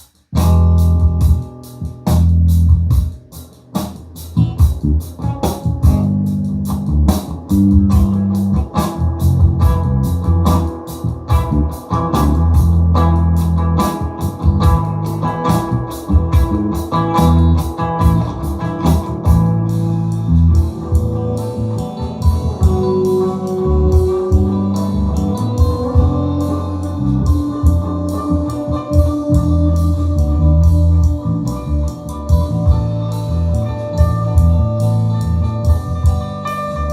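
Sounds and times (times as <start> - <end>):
blues-rock music: 0.0 - 36.9
heavy bass line: 0.0 - 36.9.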